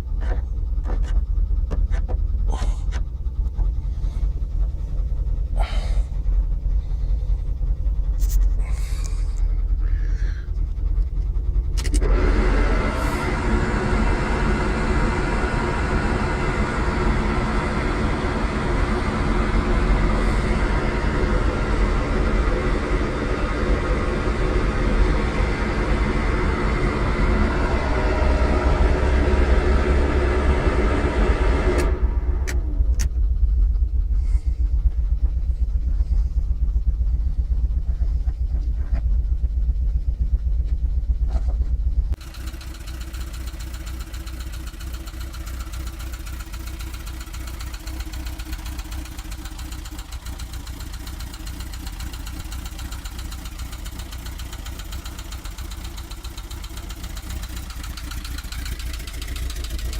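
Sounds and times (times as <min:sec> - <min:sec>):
van engine running: 0:00.0 - 0:59.9.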